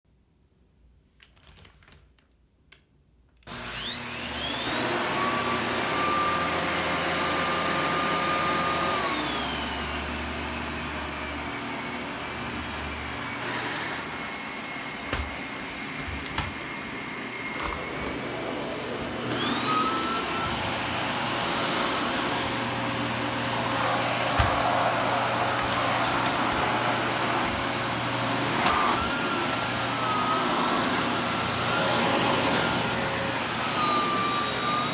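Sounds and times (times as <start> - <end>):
vacuum cleaner motor whining: 3.5 - 34.9.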